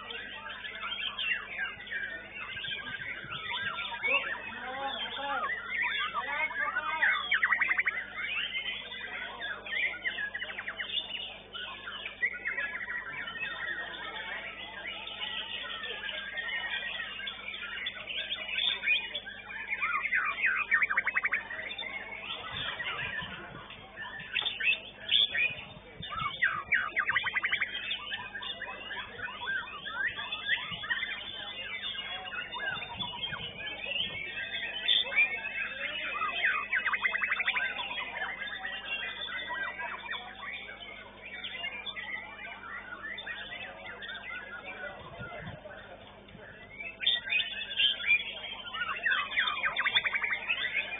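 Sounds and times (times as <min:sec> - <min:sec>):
songbird singing trills and whistles: 0:00.0 - 0:50.9.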